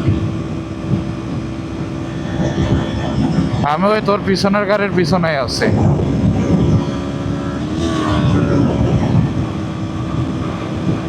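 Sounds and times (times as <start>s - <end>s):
motorcycle engine droning: 0.0s - 11.0s
wind rushing on microphone: 0.0s - 11.0s.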